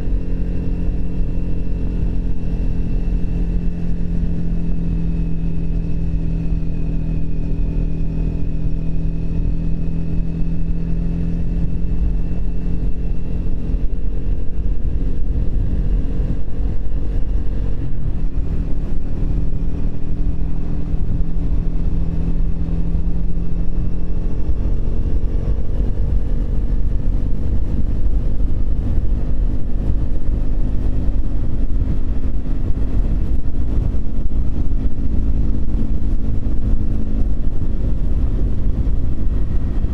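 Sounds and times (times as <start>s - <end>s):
heavy low rumble: 0.0s - 39.9s
motorcycle engine running: 0.0s - 39.9s.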